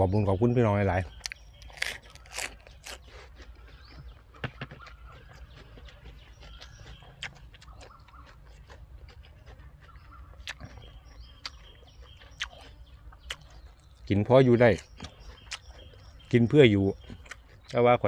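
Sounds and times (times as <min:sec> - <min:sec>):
person chewing crunchy food: 0:01.0 - 0:18.0.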